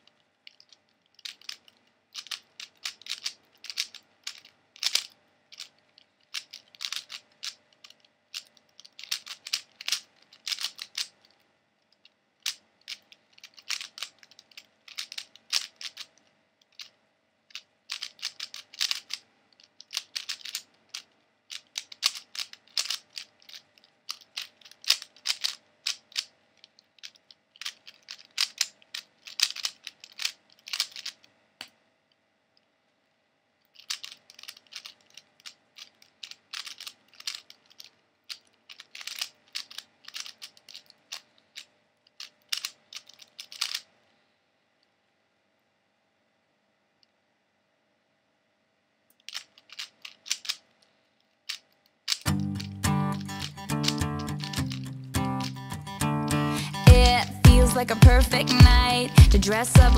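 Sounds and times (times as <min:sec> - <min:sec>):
puzzle cube plastic clicking: 0:00.0 - 0:31.8, 0:33.6 - 0:44.0, 0:49.1 - 0:57.2.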